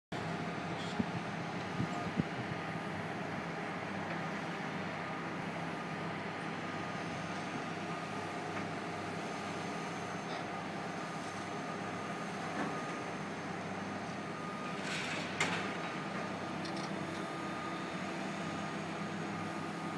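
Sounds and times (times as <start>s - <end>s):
heavy machinery engine hum: 0.2s - 19.9s.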